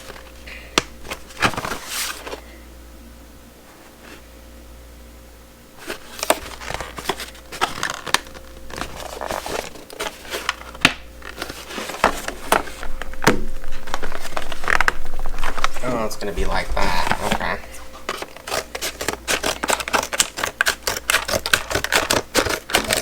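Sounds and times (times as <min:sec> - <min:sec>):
packaging crinkling and tearing: 0:00.0 - 0:02.4, 0:05.8 - 0:23.0.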